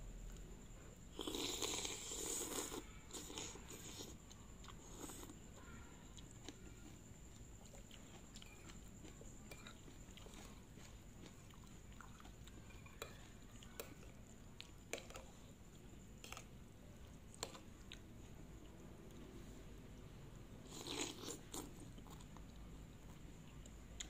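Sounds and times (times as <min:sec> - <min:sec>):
chewing noodles: 0:01.1 - 0:18.8, 0:20.6 - 0:24.0.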